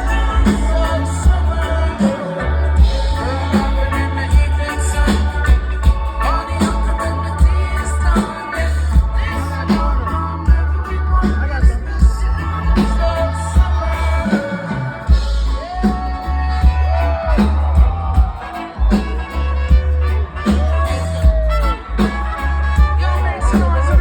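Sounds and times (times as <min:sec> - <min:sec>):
heavy bass line: 0:00.0 - 0:24.0
person singing: 0:00.0 - 0:24.0
steady drum beat: 0:00.0 - 0:24.0.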